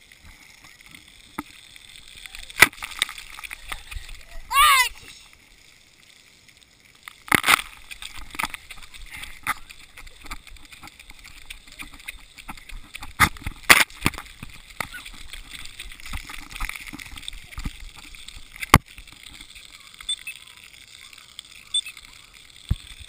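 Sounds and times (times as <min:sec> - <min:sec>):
water splashing close by: 0:00.0 - 0:23.0.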